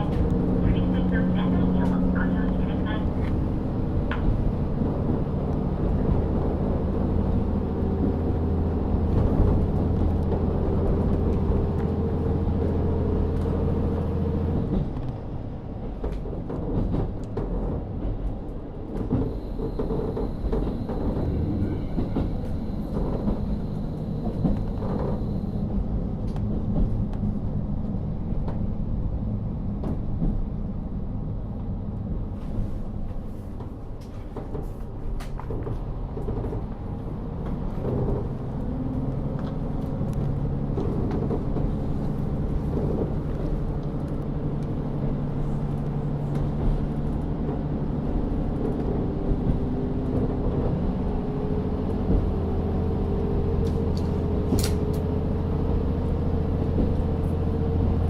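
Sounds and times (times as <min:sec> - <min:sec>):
railcar diesel engine running: 0:00.0 - 0:58.0
train wheels rumbling: 0:00.0 - 0:58.0.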